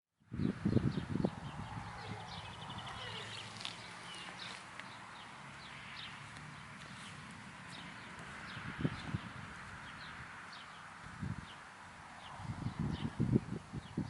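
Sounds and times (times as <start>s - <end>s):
small birds chirping: 0.3s - 14.0s.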